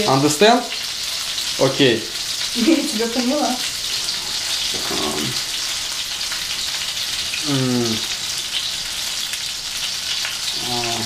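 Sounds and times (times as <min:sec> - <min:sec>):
food frying in oil: 0:00.0 - 0:11.0.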